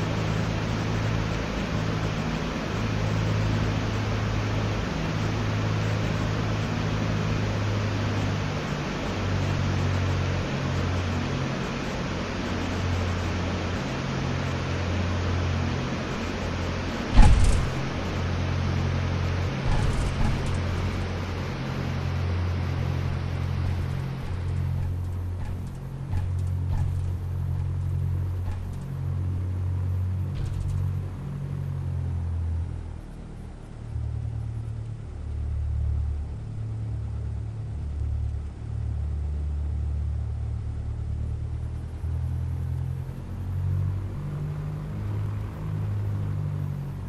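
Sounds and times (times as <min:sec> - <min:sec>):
twin piston engines droning: 0:00.0 - 0:47.0.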